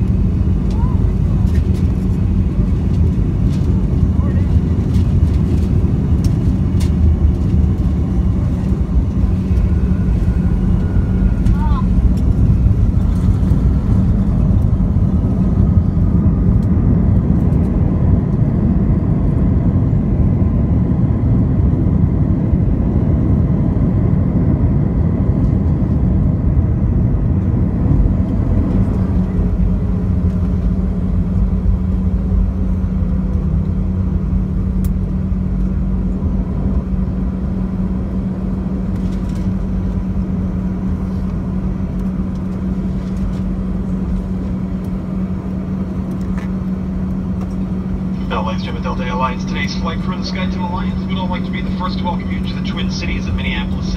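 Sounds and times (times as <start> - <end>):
rumble of engines and wheels: 0.0 - 53.9
steady low hum: 0.0 - 53.9.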